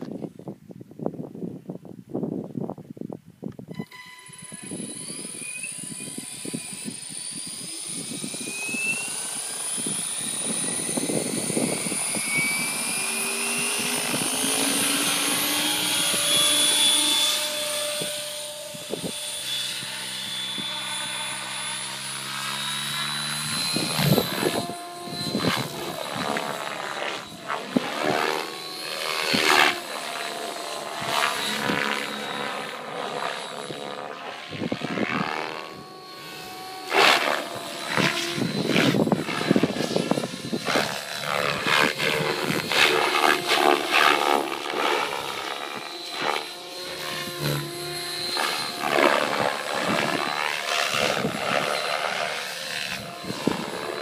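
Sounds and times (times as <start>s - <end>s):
rc helicopter motor whine: 3.6s - 54.0s.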